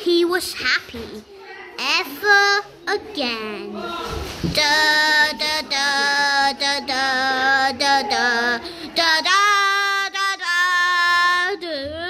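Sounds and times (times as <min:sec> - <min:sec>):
child singing wordless tune: 0:00.0 - 0:03.8, 0:04.5 - 0:12.0.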